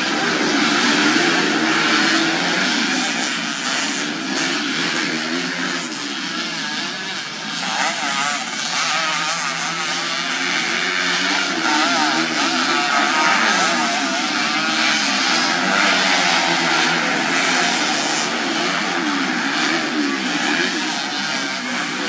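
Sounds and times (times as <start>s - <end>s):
racing motorcycles revving: 0.0s - 22.0s.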